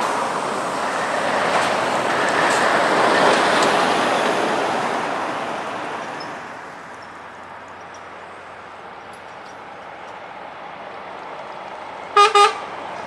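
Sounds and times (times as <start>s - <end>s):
background traffic rumble: 0.0s - 13.0s
truck passing: 0.0s - 13.0s.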